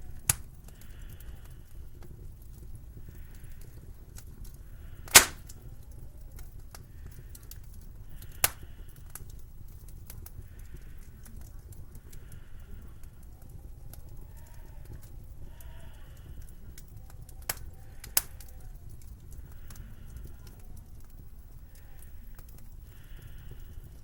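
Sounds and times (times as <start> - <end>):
faint ticks: 0.0 - 24.0
low fire rumble: 0.0 - 24.0
wood fire sharp cracks: 0.0 - 24.0.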